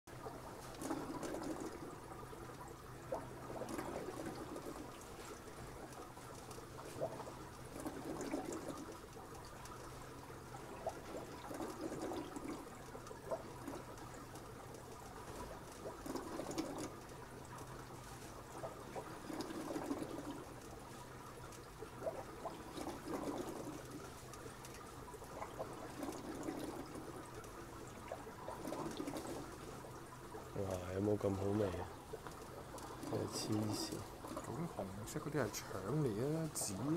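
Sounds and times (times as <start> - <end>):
low steady hum: 0.1 - 36.9
water trickling and splashing: 0.1 - 36.9.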